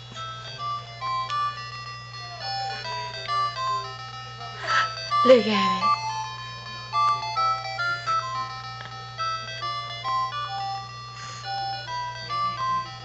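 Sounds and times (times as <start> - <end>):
electronic toy beeping tune: 0.0 - 13.0
steady low hum: 0.0 - 13.0.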